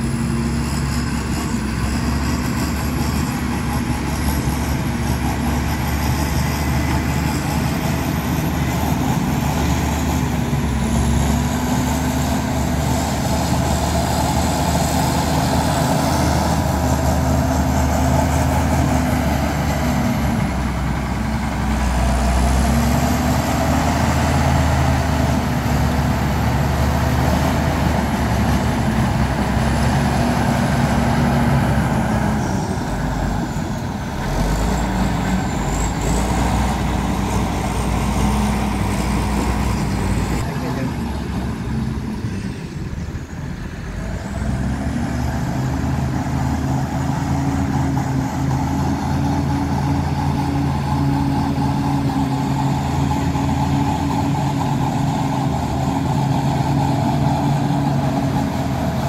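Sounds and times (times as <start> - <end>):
heavy diesel engine labouring: 0.0 - 59.0.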